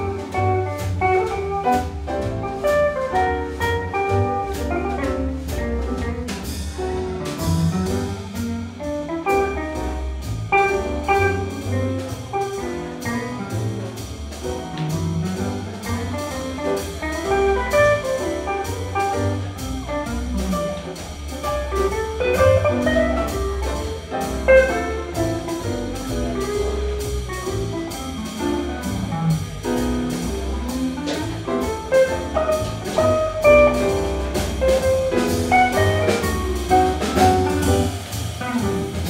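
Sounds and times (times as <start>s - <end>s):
swing jazz band playing: 0.0s - 39.0s.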